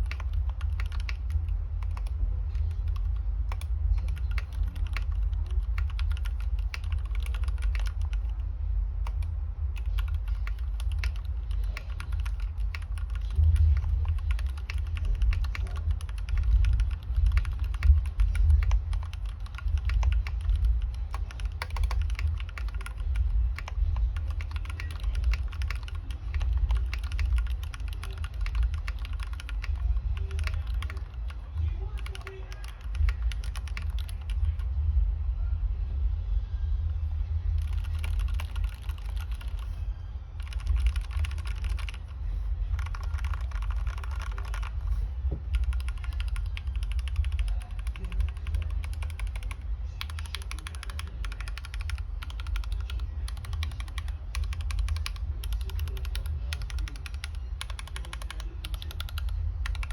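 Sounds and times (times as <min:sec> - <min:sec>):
mechanical keyboard typing: 0:00.0 - 0:34.7, 0:37.5 - 0:39.8, 0:40.4 - 0:59.9
steady low rumble: 0:00.0 - 0:59.9.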